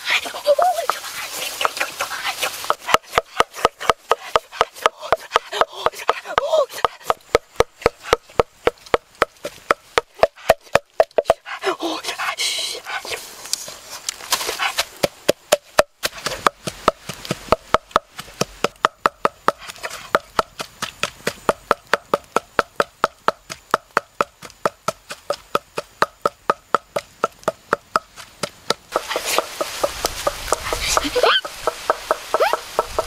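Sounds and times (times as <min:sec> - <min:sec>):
pestle pounding in wooden mortar: 0:01.6 - 0:11.6, 0:14.4 - 0:33.0.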